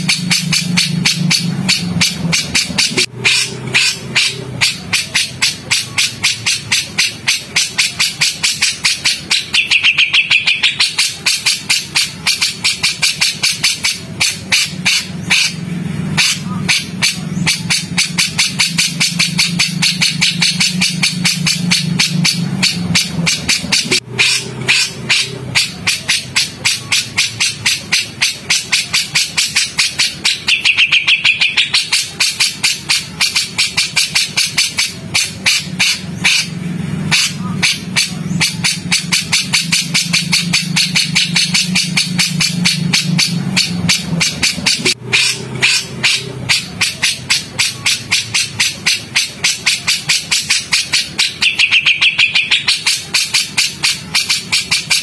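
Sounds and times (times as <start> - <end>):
higher bird chirping: 0.0 - 55.0
songbird harsh chattering: 0.0 - 55.0.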